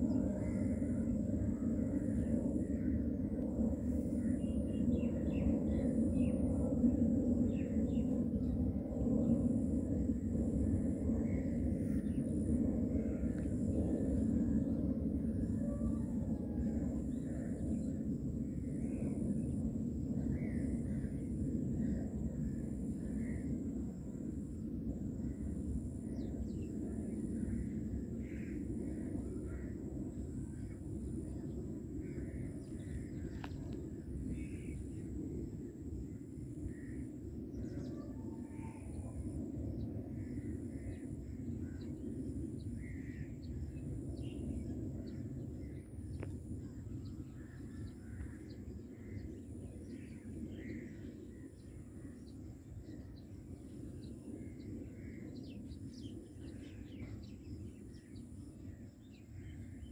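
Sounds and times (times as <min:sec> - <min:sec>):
jet airliner rumbling overhead: 0:00.0 - 0:59.9.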